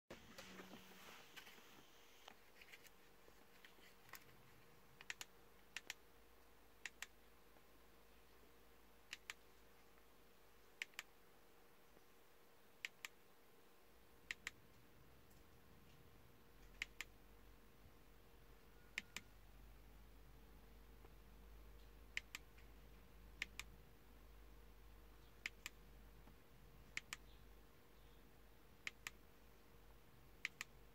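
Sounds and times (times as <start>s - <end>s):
faint steady hum: 0.1s - 30.9s.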